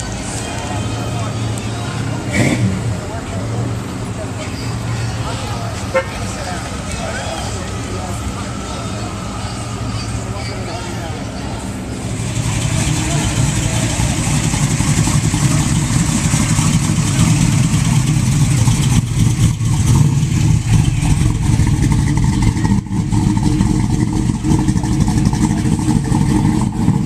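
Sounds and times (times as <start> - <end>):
loud vehicle engine running: 0.0 - 27.0.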